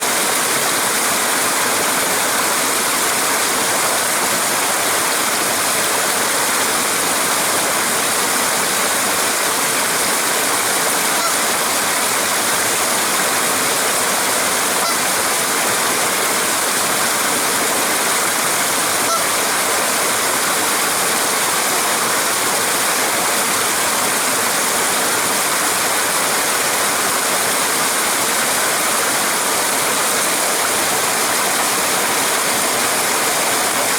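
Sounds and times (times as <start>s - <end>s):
water pouring over waterfall: 0.0s - 33.9s.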